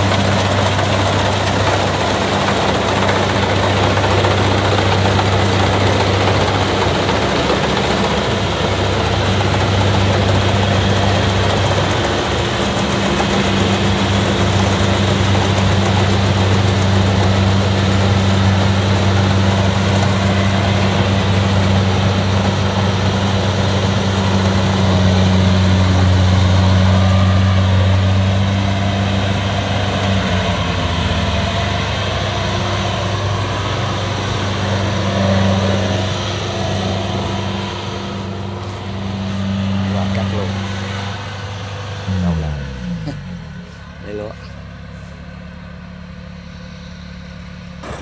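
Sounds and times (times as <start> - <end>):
combine harvester diesel engine: 0.0 - 48.0.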